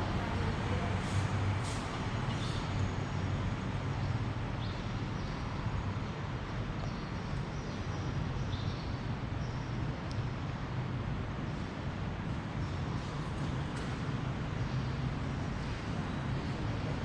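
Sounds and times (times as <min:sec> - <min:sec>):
railway station rumble: 0:00.0 - 0:17.0.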